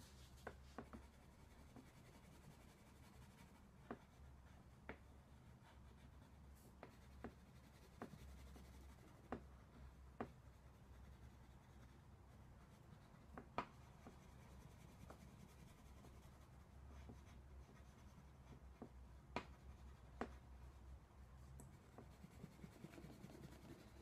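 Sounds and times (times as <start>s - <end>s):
low room hum: 0.0s - 24.0s
crayon scratching on paper: 0.1s - 9.4s, 10.2s - 18.9s, 21.7s - 24.0s.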